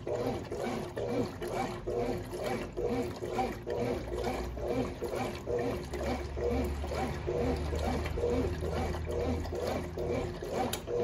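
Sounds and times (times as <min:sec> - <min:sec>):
low motor hum: 0:00.0 - 0:11.0
washing machine agitator swishing water: 0:00.0 - 0:11.0.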